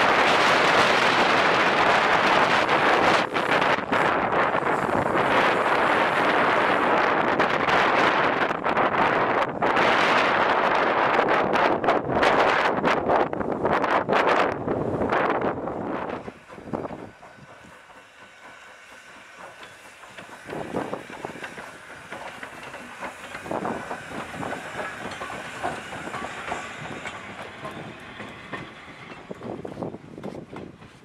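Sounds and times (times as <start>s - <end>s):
train wheels clacking on rail joints: 0.0s - 31.0s.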